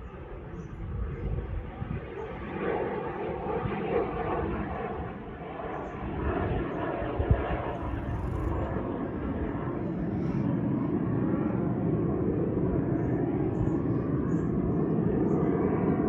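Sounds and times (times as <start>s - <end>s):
plane engine droning: 0.0s - 16.0s.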